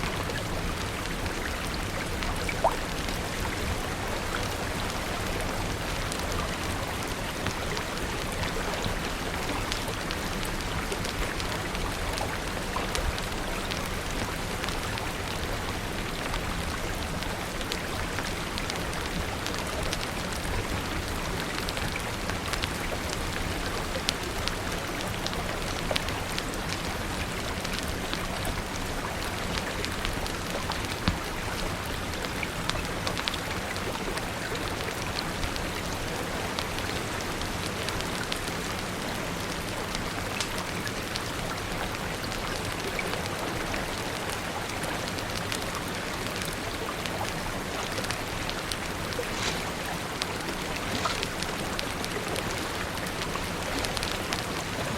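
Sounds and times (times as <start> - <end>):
steady rain: 0.0 - 54.9
wood fire crackling and popping: 0.1 - 54.9.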